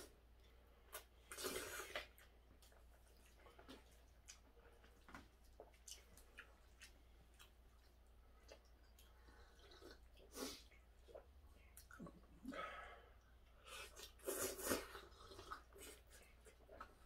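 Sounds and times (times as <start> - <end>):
quiet chewing: 0.0 - 12.5, 13.2 - 17.0.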